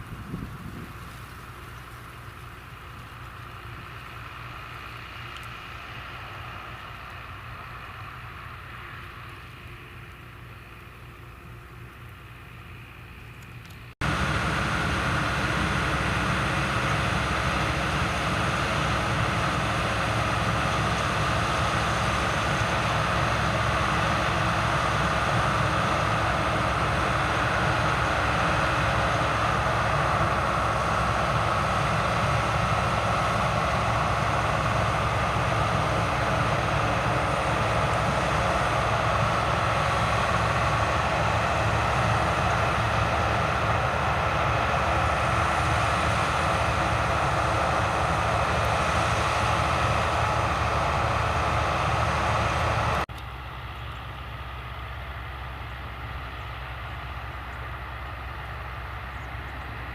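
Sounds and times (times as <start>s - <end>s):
harvesting machinery running: 0.0s - 59.9s.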